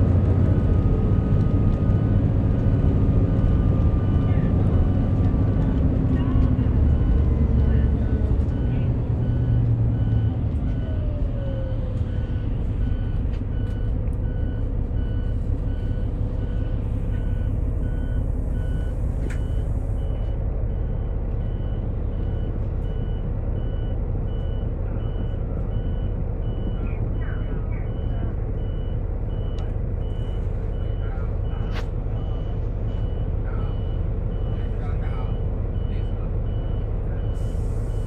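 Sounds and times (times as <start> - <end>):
bus diesel engine drone: 0.0 - 38.0
road noise: 0.0 - 38.0.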